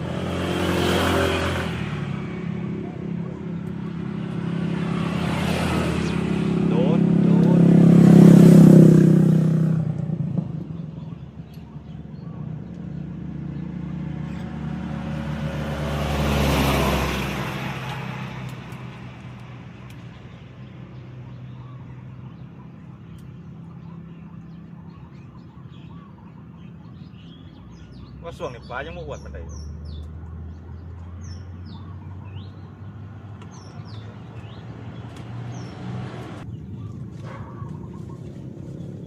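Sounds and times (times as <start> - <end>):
motorboat engines passing: 0.0 - 39.0.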